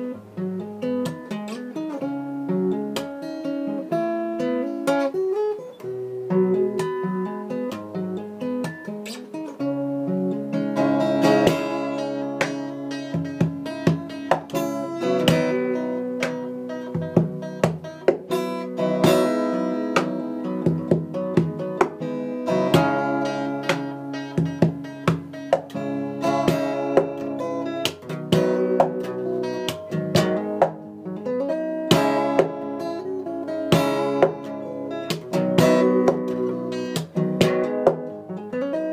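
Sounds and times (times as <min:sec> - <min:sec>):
plucked string instrument melody: 0:00.0 - 0:38.9.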